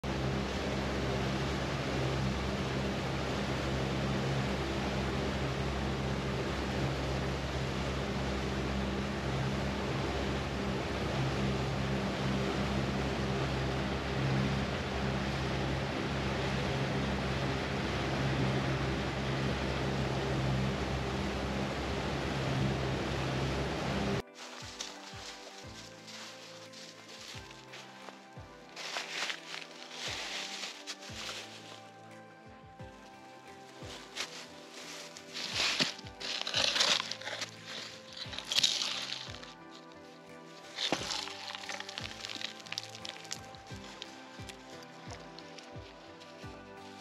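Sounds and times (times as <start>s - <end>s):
boat motor droning: 0.0s - 47.0s.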